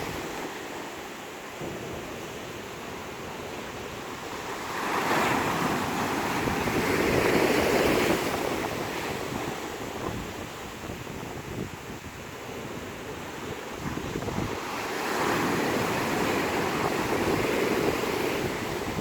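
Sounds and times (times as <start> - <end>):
steady wash of surf: 0.0 - 19.0
wind on microphone: 0.0 - 19.0.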